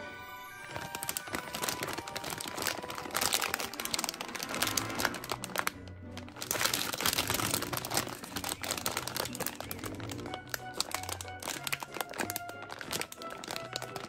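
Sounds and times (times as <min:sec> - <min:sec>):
light background music: 0:00.0 - 0:14.0
candy wrapper crinkling: 0:00.5 - 0:14.0.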